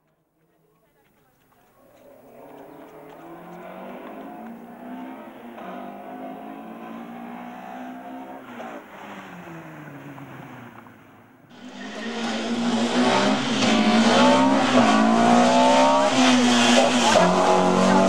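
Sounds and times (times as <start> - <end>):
car engine revving hard: 2.4 - 10.8, 11.5 - 18.0.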